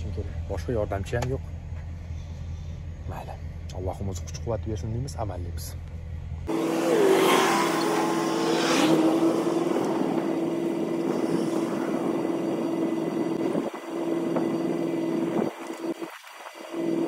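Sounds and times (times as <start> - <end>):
engine idling with steady hum: 0.0 - 6.5, 9.1 - 17.0.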